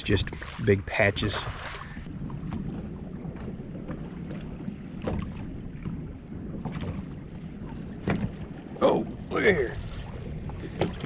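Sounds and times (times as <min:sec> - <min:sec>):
water slapping against boat hull: 0:00.0 - 0:11.0
wind on microphone: 0:00.0 - 0:11.0.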